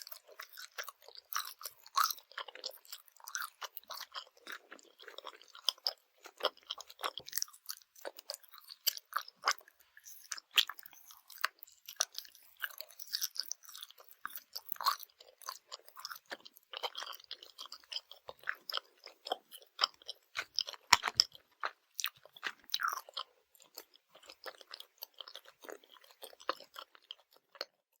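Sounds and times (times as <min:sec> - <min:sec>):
candy bites: 0:00.0 - 0:27.8
wet sticky chewing smacks: 0:00.0 - 0:27.8.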